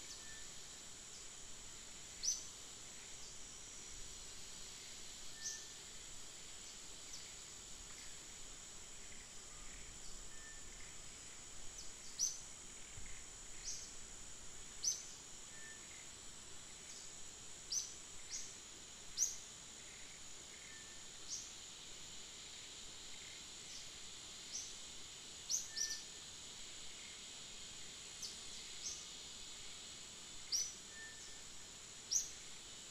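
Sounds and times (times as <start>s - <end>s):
high-pitched insect drone: 0.0s - 32.9s.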